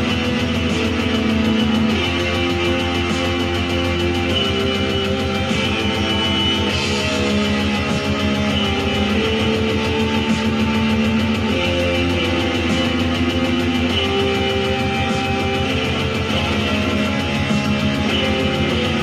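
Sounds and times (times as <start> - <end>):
symphonic metal music: 0.0 - 19.0.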